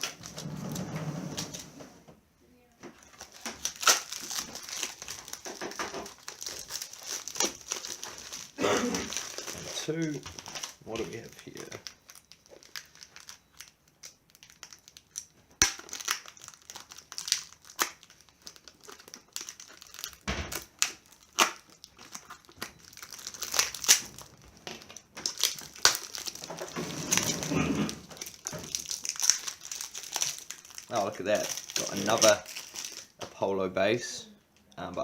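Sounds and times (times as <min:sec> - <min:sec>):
packaging crinkling and tearing: 0:00.0 - 0:01.6, 0:03.0 - 0:33.3.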